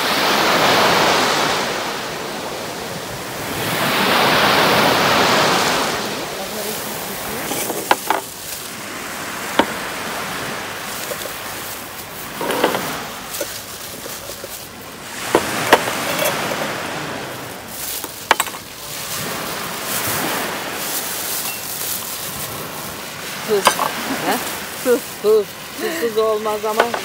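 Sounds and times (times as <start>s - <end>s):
sea surf: 0.0s - 27.0s.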